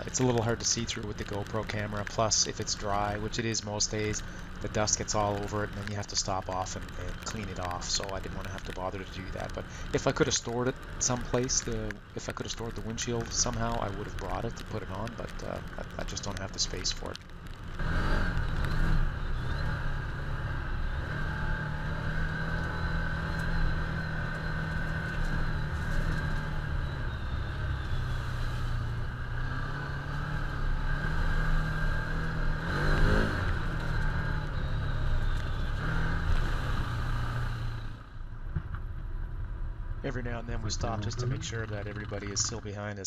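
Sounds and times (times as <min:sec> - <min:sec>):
tyres on wet gravel: 0:00.0 - 0:38.0
vehicle engine running: 0:00.0 - 0:43.0.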